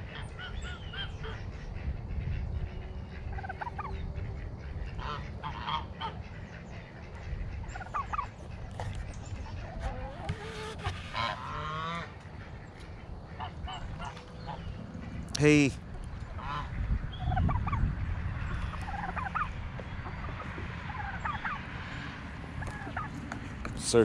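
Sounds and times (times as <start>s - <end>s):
farmyard fowl calling: 0.0s - 24.0s
geese honking: 0.0s - 24.0s.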